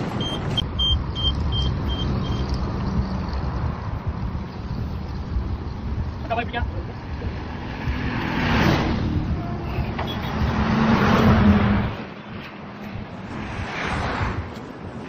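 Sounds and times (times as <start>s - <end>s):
road noise: 0.0s - 15.0s
vehicle engine: 0.0s - 15.0s.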